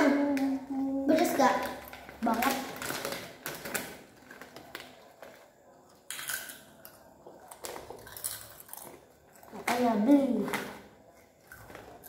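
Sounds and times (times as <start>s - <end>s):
plastic snack packets rustling: 0.1s - 12.0s.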